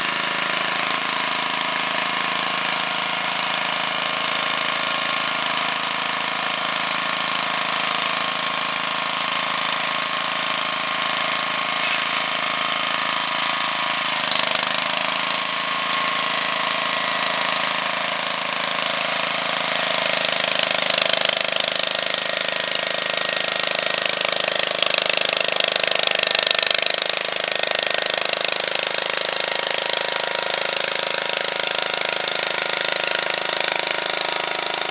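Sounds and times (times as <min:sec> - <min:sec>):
walking tractor engine running: 0:00.0 - 0:34.9.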